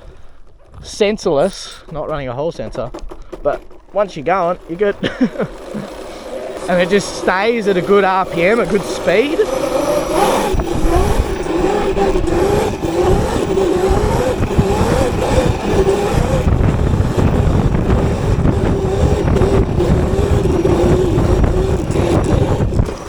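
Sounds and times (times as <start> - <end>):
road rumble: 0.0 - 23.0
wind noise: 0.0 - 23.0
electric motor whining: 2.9 - 23.0.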